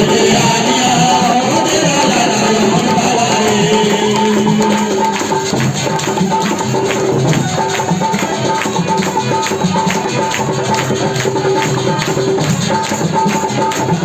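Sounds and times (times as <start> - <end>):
percussion beat: 0.0 - 14.0.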